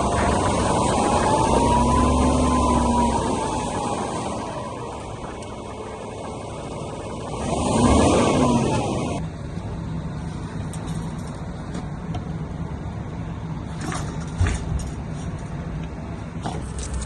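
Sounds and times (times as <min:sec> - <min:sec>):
engine humming steadily: 0:00.0 - 0:17.0
passing vehicle noise: 0:00.0 - 0:17.0.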